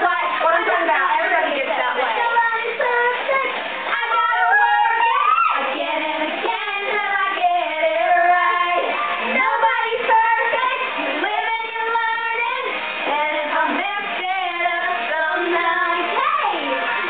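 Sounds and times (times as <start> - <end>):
backing music: 0.0 - 17.0
girls singing pop melody: 0.0 - 17.0.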